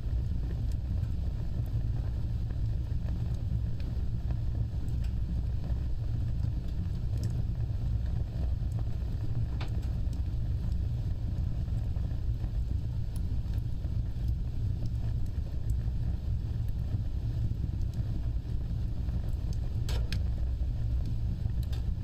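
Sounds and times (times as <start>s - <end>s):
wood fire burning with crackles: 0.0s - 22.0s.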